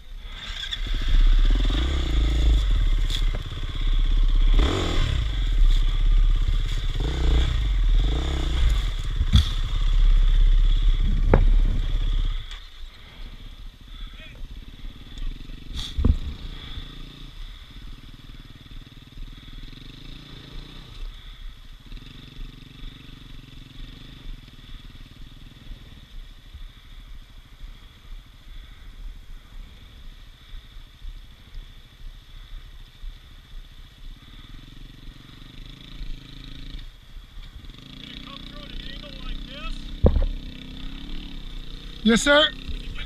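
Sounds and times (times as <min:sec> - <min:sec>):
dirt bike engine idling: 0:00.0 - 0:43.0.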